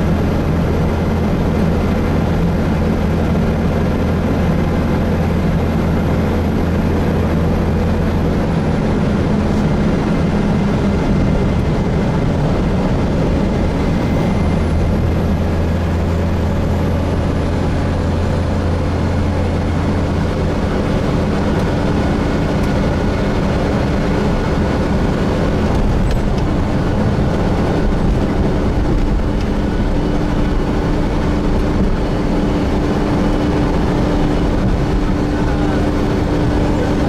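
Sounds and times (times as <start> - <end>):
bus drivetrain hum: 0.0 - 37.0
bus interior low hum: 0.0 - 37.0.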